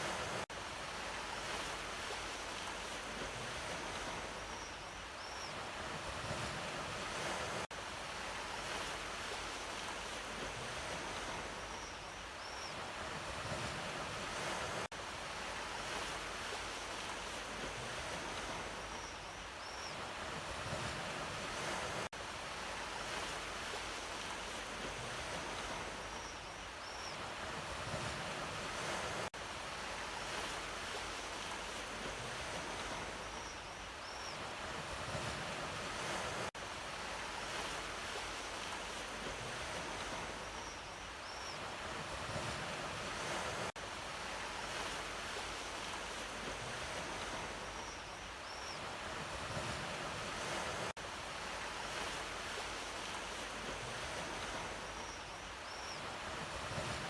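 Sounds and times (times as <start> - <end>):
sea waves on shore: 0.0 - 57.0.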